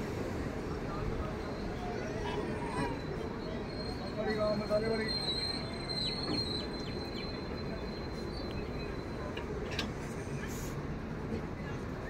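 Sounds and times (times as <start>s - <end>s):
train coaches rolling past: 0.0s - 12.0s.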